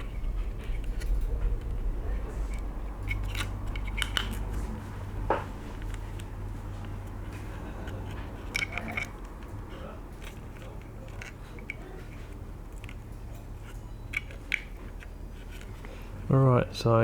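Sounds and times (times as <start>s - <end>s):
clicks and rattles of wire handling: 0.0s - 16.4s
steady low hum: 0.0s - 17.0s.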